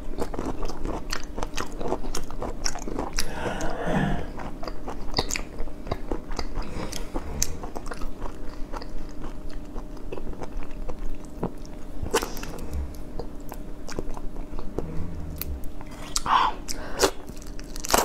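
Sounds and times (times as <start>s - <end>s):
chewing and crunching shrimp shells: 0.0s - 14.8s, 15.9s - 18.0s.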